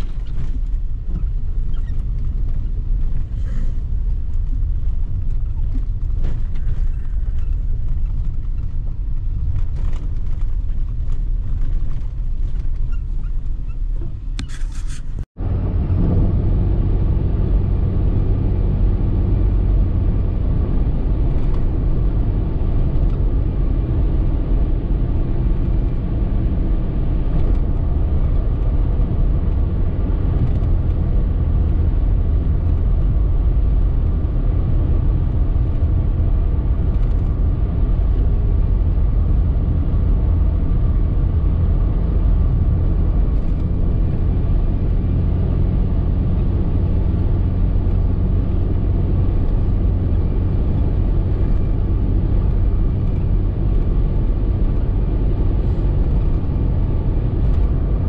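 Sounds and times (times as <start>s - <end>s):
car cabin road and engine noise: 0.0s - 58.0s.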